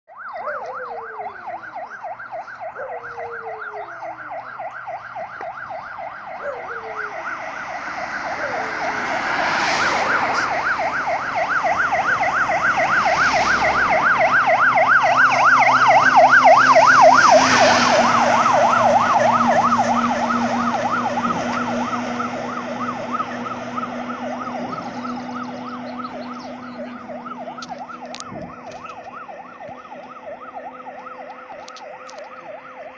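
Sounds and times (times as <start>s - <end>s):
fire engine siren yelping: 0.1s - 32.9s
truck engine: 0.2s - 32.9s.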